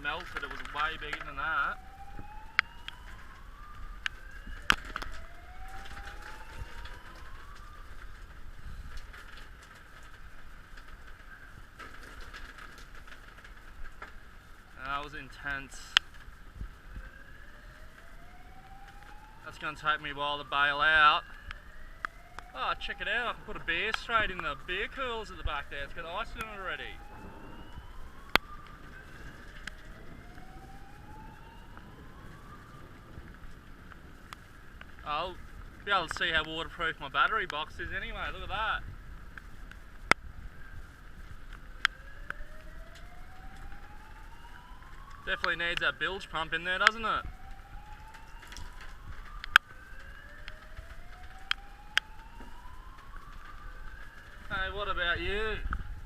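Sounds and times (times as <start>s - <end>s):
emergency siren wailing: 0.0s - 56.0s.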